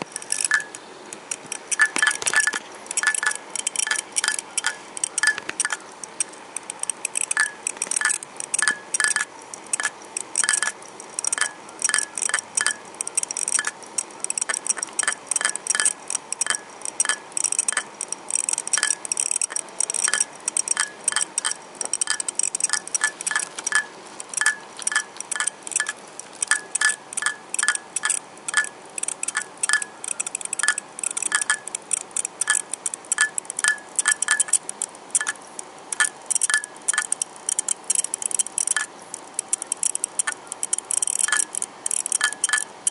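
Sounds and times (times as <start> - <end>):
hard disk drive clicking rattle: 0.0 - 42.9.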